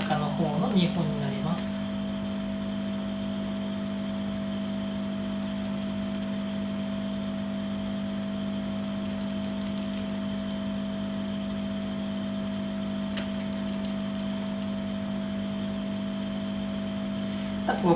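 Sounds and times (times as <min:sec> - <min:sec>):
machine hum: 0:00.0 - 0:17.9.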